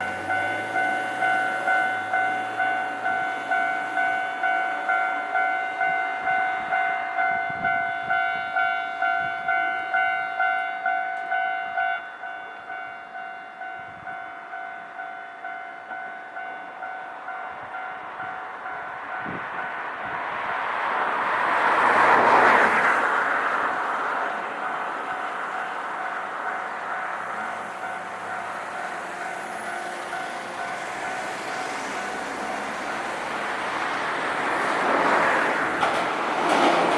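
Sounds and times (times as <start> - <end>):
level crossing warning bell: 0.0 - 20.4, 23.5 - 36.9
train passing rumble: 0.0 - 36.9.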